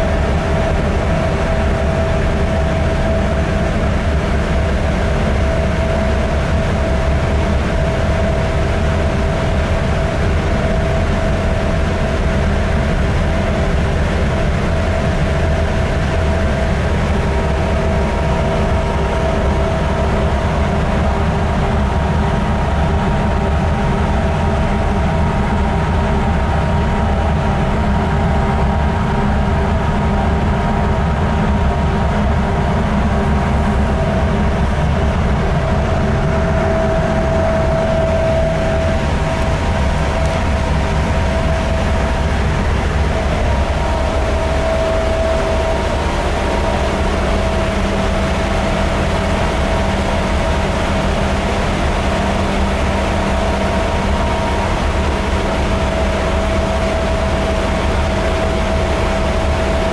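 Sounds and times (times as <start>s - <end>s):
constant engine whine: 0.0s - 59.9s
ship diesel engine rumble: 0.0s - 59.9s.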